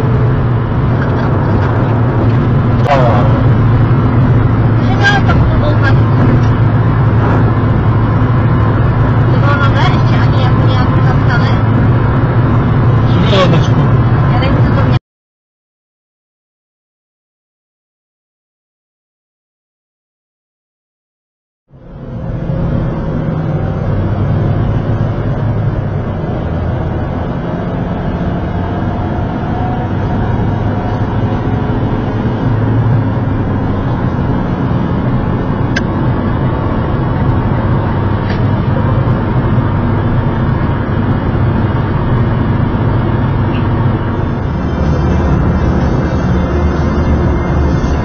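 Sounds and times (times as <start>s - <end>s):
car engine hum and road noise: 0.0s - 15.0s, 21.7s - 48.0s.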